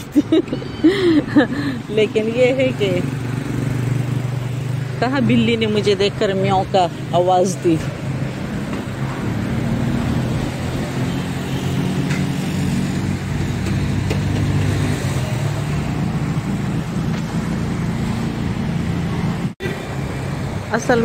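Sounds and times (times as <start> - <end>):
passing vehicle engines humming: 0.0 - 21.0.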